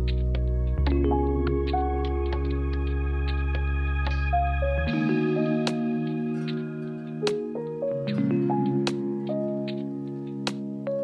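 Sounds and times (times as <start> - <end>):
calm instrumental music: 0.0 - 11.0.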